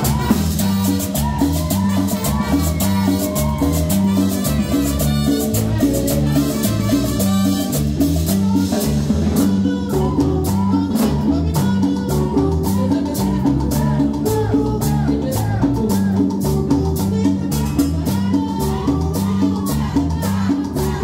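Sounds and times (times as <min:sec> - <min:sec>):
bass line: 0:00.0 - 0:21.0
latin dance band playing: 0:00.0 - 0:21.0
percussion beat: 0:00.0 - 0:21.0.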